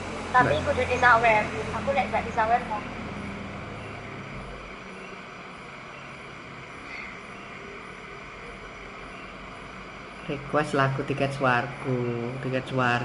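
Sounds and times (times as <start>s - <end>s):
low hum: 0.0s - 13.0s
steady background hiss: 0.0s - 13.0s.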